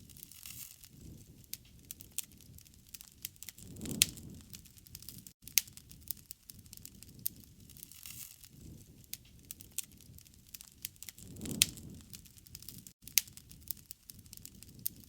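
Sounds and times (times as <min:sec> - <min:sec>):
low rush of flame: 0:00.0 - 0:15.0
wood fire crackling: 0:00.0 - 0:15.0.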